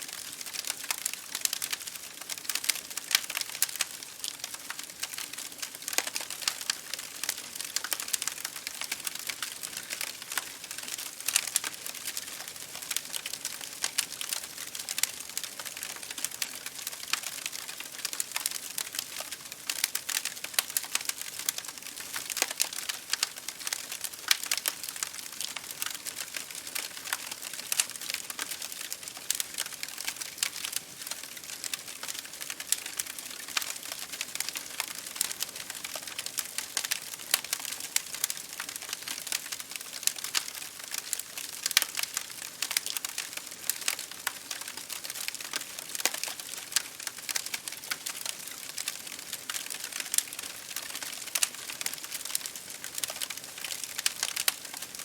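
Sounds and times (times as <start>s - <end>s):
rain hissing against a window: 0.0s - 55.0s
wood fire crackling: 0.0s - 55.0s.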